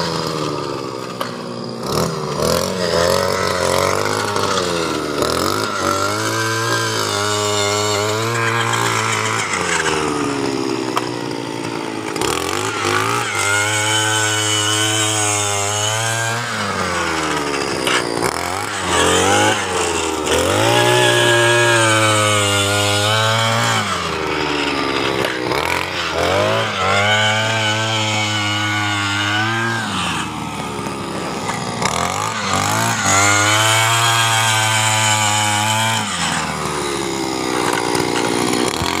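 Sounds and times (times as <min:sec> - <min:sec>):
earth auger engine revving: 0:00.0 - 0:39.0.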